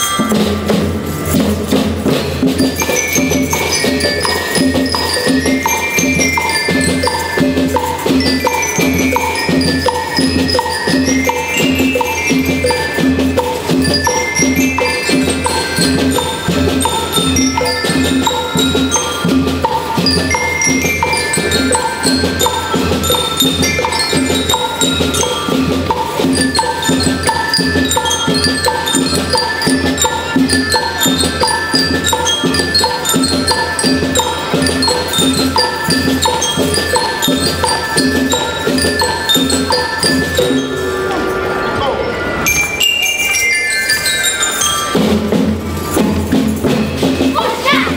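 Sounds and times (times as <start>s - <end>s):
drum and percussion beat: 0.0s - 41.5s, 42.4s - 47.9s
bell lyres playing melody: 0.0s - 47.9s.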